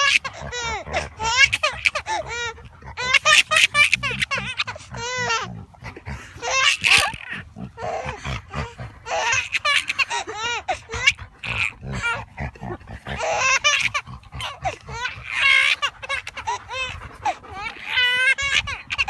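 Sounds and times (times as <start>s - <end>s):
dog whining and yelping: 0.0s - 19.0s.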